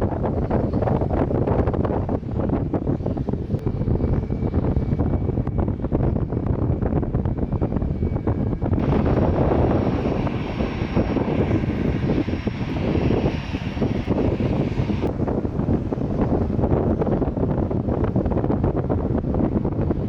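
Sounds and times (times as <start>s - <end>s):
airliner engine rumble: 0.0s - 20.0s
wind buffeting microphone: 0.0s - 20.0s.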